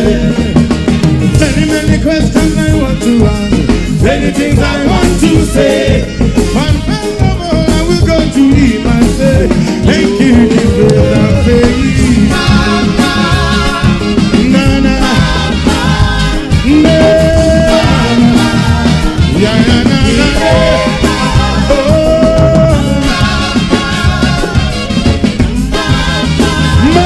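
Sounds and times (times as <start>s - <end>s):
man singing into a microphone: 0.0s - 24.9s, 26.7s - 27.0s
live reggae band playing: 0.0s - 27.0s.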